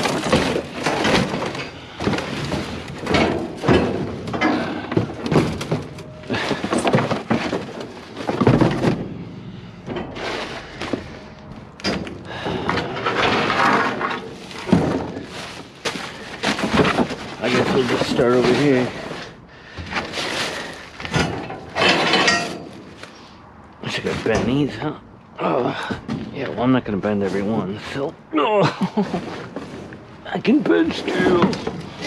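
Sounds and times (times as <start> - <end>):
debris clattering in dumpster: 0.0 - 23.2, 28.8 - 32.0.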